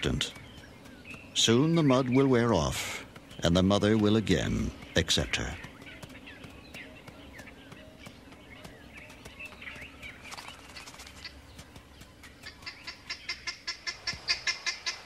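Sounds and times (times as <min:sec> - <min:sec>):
bird chirps: 0:00.0 - 0:15.0
rapid repeated high bird call: 0:00.0 - 0:15.0.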